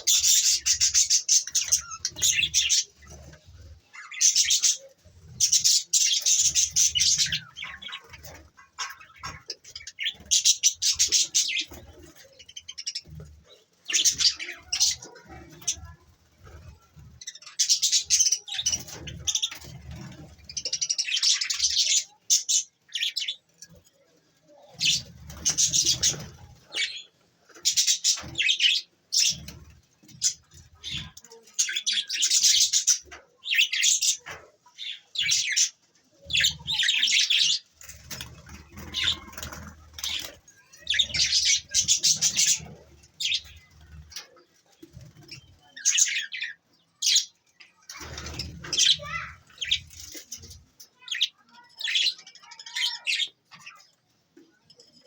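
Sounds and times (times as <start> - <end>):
budgerigars chattering and chirping: 0.0 - 16.0, 16.6 - 53.9.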